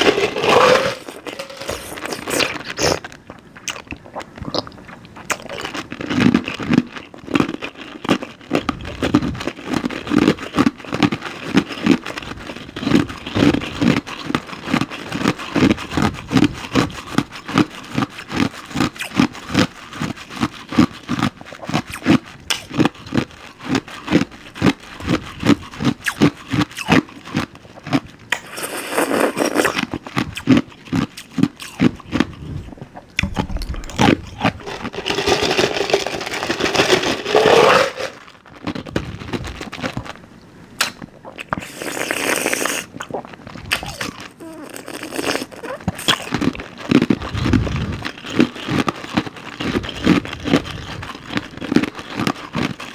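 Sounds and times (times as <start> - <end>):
chewing crunchy ice: 0.0 - 40.2, 40.8 - 52.9.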